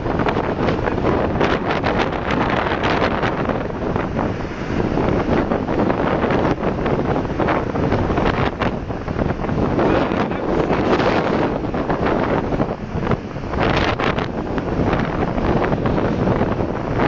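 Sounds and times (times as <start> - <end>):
waves breaking on shore: 0.0 - 17.0
wind buffeting microphone: 0.0 - 17.0.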